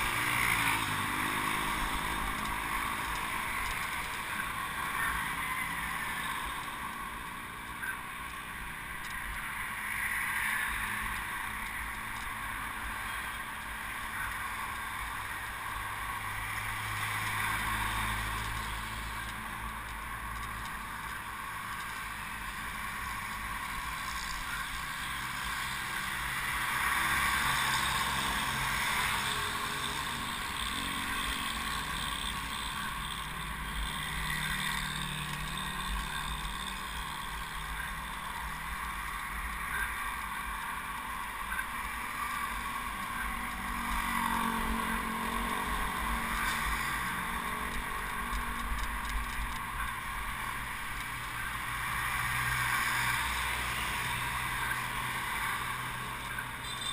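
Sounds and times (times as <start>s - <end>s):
road rumble: 0.0s - 56.9s
vehicle engines passing: 0.0s - 56.9s.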